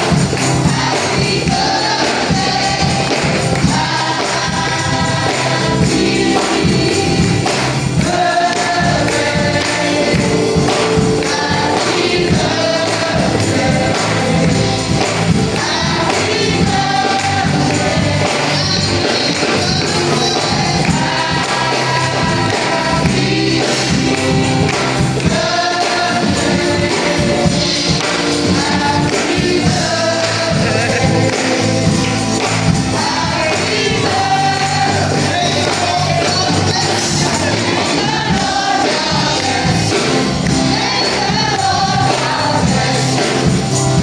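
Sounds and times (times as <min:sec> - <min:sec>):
acoustic guitar: 0:00.0 - 0:44.0
group singing along: 0:00.0 - 0:44.0
steady percussive beat: 0:00.0 - 0:44.0.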